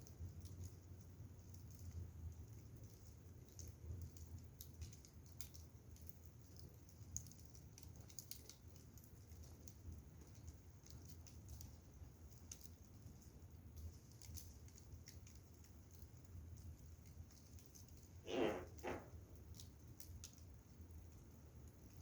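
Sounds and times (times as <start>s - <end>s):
firewood crackling: 0.0s - 22.0s.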